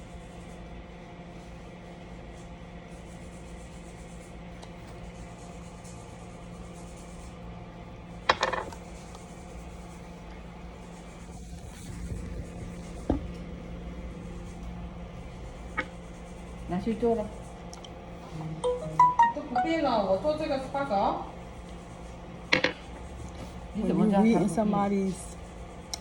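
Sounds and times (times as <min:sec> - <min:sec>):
hum of salon: 0:00.0 - 0:26.0.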